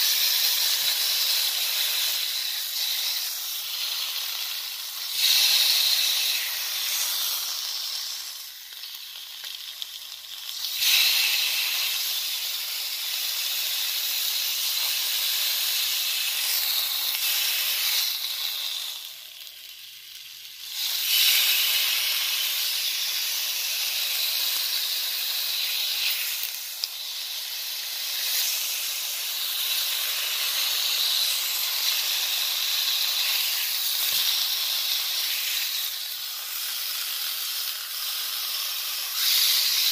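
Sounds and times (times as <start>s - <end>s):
steak sizzling in a frying pan: 0.0s - 39.9s.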